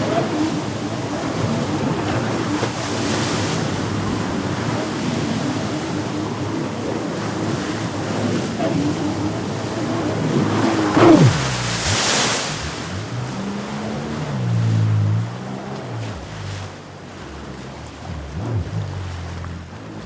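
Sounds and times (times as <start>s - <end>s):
faint jet ski engine hum: 0.0s - 20.0s
splashing water and waves: 0.0s - 20.0s.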